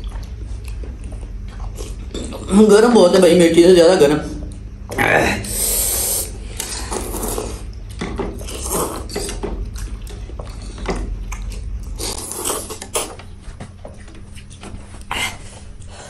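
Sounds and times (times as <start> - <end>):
slurping and chewing: 0.0 - 2.5, 5.4 - 16.0.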